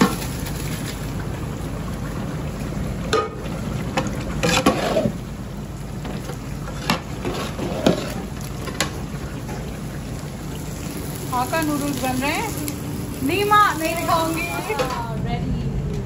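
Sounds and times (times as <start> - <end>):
hot oil sizzling: 0.0 - 15.2.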